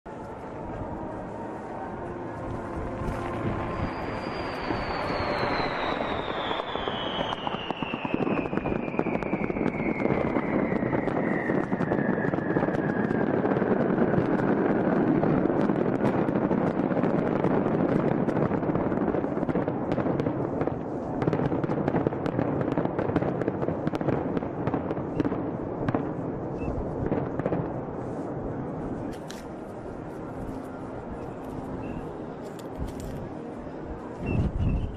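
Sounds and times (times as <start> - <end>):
fireworks crackling and banging: 0.1 - 34.8.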